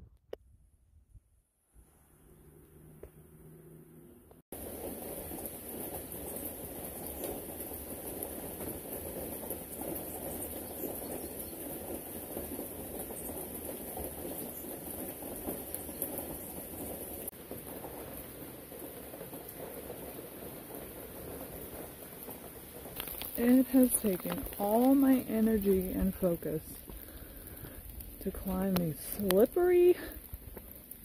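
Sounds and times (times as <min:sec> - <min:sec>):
steady rain falling: 0:04.5 - 0:31.0.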